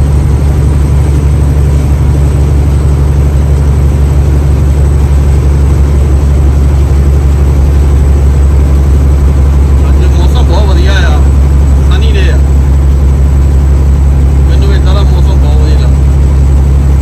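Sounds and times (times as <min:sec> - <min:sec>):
diesel truck engine droning: 0:00.0 - 0:17.0.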